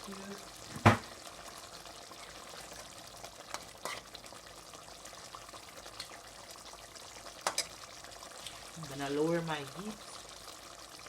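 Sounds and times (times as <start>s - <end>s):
sauce bubbling in a pot: 0.0s - 11.0s.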